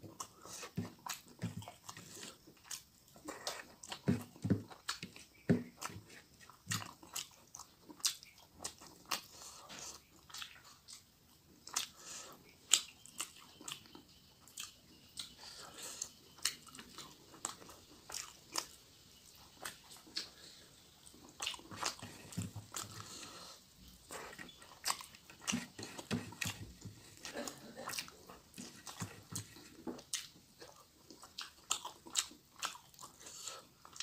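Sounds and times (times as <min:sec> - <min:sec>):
chewing and lip-smacking: 0:00.1 - 0:34.0.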